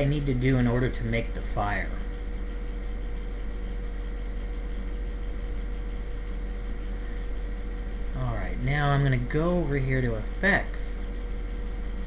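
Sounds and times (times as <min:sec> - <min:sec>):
background hum and hiss: 0:00.0 - 0:12.0
faint constant whine: 0:00.0 - 0:12.0.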